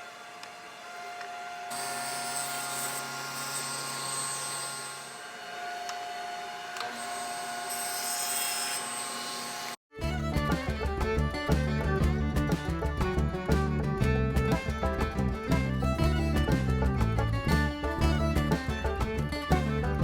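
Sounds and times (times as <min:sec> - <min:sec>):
table saw cutting wood: 0:00.0 - 0:13.9, 0:14.5 - 0:20.0.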